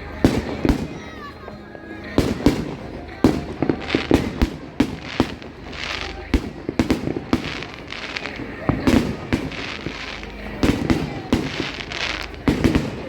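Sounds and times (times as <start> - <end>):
fireworks bangs: 0.0 - 13.0
fireworks crackling hiss: 0.0 - 13.0.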